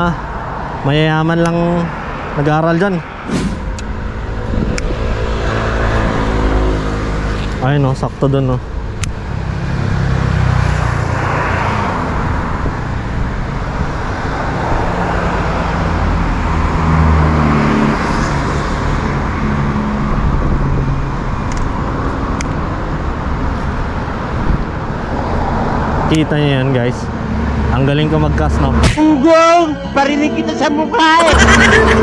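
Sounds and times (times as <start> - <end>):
road traffic engines and tyres: 0.0 - 32.0.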